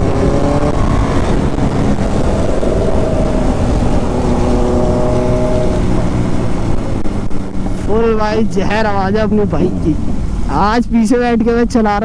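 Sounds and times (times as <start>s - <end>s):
motorcycle engine and exhaust: 0.0s - 11.0s.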